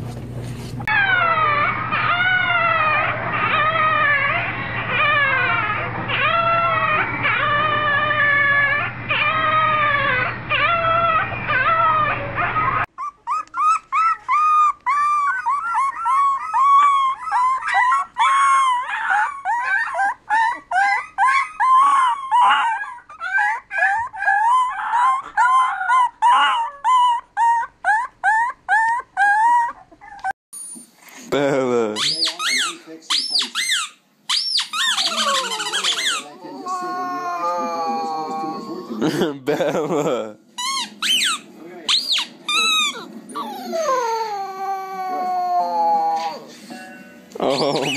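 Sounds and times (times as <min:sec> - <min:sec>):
puppies yelping: 0:00.8 - 0:30.4, 0:32.0 - 0:39.3, 0:40.6 - 0:46.7, 0:47.4 - 0:47.9
puppy howling: 0:00.9 - 0:30.4, 0:34.6 - 0:39.2, 0:40.6 - 0:46.6, 0:47.4 - 0:47.9.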